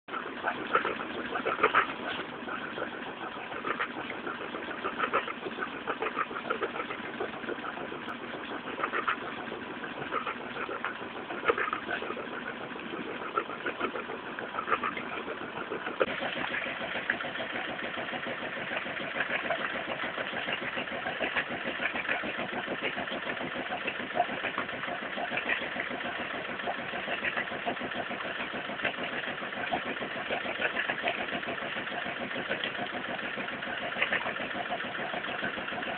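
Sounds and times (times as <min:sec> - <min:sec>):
diesel engine exhaust pulses: 0:00.1 - 0:35.9.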